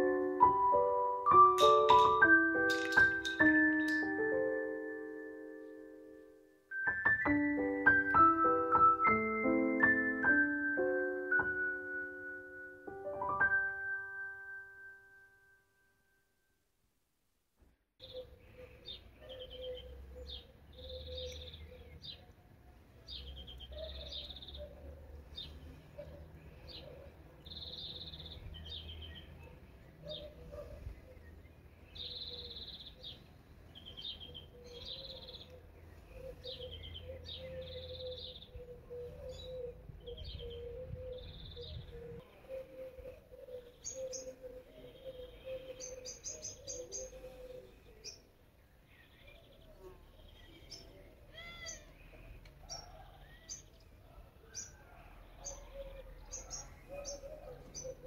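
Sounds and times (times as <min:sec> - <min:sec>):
songbirds chirping and trilling: 0:00.0 - 0:14.6, 0:18.0 - 0:58.0.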